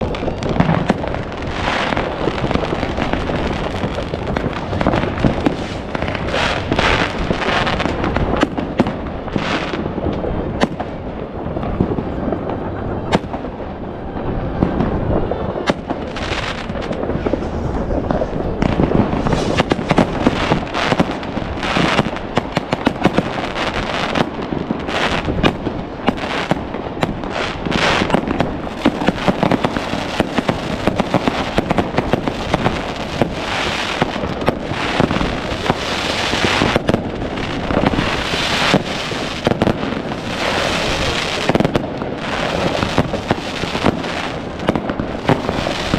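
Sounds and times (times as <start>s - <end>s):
fireworks bangs and crackling: 0.0s - 45.9s
rockets whooshing: 0.0s - 45.9s.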